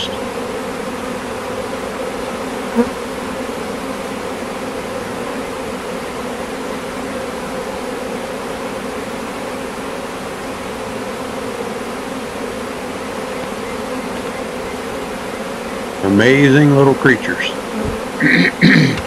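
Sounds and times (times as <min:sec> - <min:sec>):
bee buzzing close by: 0:00.0 - 0:19.0
bees buzzing: 0:00.0 - 0:19.0.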